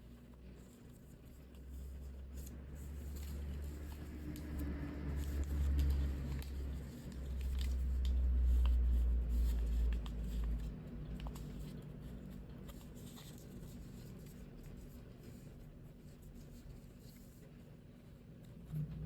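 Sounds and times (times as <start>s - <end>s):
paper folding and creasing: 0.0s - 19.0s.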